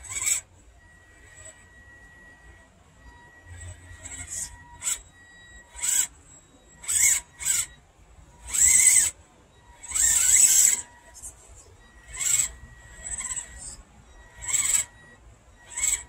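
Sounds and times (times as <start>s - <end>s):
electric motor and gears whining: 0.0s - 16.0s
faint steady high tone: 0.0s - 16.0s.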